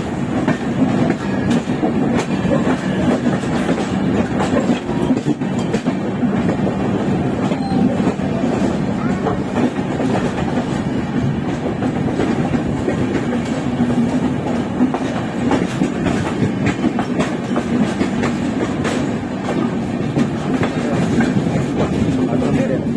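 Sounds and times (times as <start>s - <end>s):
express train passing: 0.0s - 22.9s
train wheel and rail rumble: 0.0s - 22.9s
wheels clacking over rail joints: 0.4s - 22.9s.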